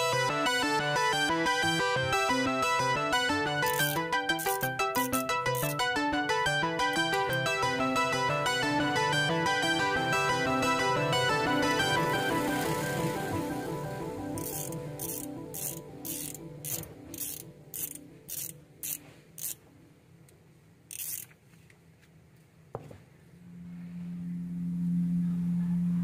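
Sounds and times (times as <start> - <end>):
background music: 0.0 - 19.6, 23.4 - 26.0.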